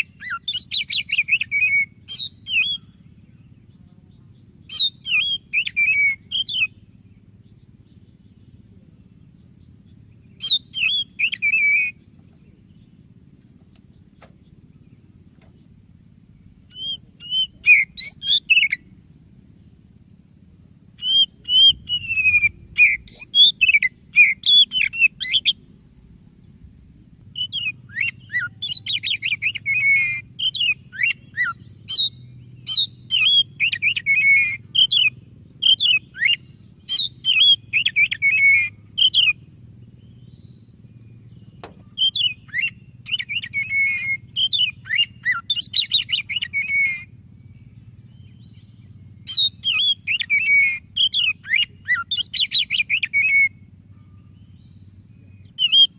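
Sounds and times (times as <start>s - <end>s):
bird singing whistles and chirps: 0.0s - 13.0s, 13.8s - 19.0s, 20.8s - 55.9s
faint low hum: 0.0s - 55.9s.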